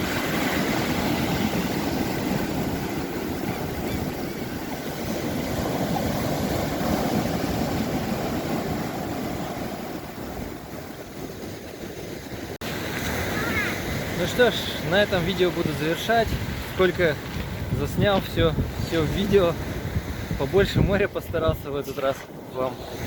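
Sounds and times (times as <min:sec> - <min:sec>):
sea surf on pebble beach: 0:00.0 - 0:23.0.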